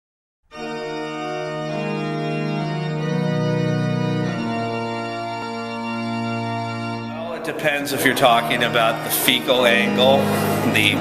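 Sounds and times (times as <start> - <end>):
organ chords: 0.5 - 11.0.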